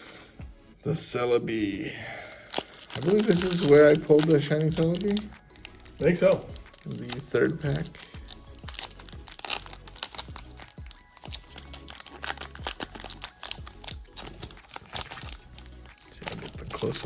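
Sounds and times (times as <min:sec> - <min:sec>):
background music with low bass: 0:00.0 - 0:17.0
foil wrapper crinkling: 0:02.1 - 0:17.0.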